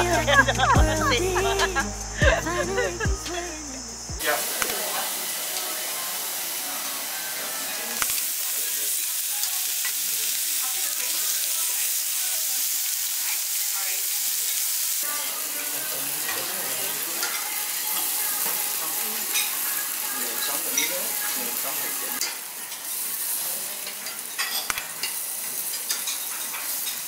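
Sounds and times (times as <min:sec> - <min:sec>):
meat sizzling on a grill: 0:04.0 - 0:27.0.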